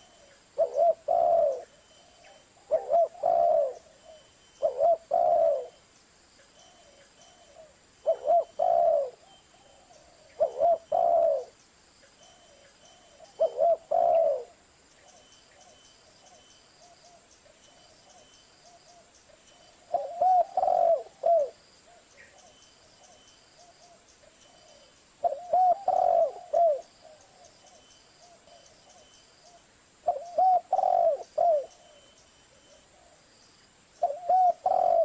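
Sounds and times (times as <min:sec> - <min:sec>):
dove cooing: 0:00.0 - 0:05.8, 0:06.6 - 0:11.6, 0:12.3 - 0:33.3, 0:34.0 - 0:35.0.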